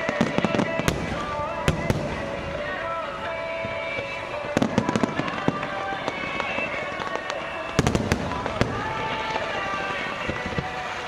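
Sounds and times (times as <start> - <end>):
fireworks bangs: 0.0 - 11.0
music: 0.0 - 11.0
voices: 0.0 - 11.0.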